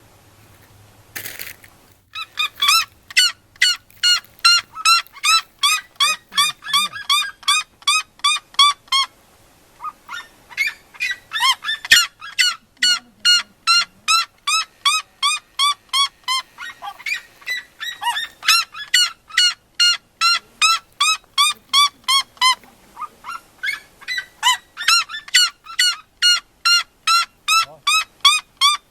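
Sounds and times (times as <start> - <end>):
birds calling loudly: 2.1 - 28.9.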